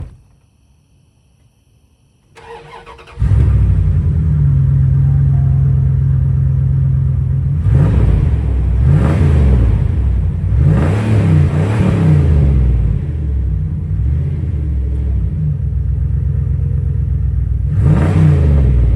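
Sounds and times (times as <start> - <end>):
pickup engine idling and revving: 2.6 - 18.9.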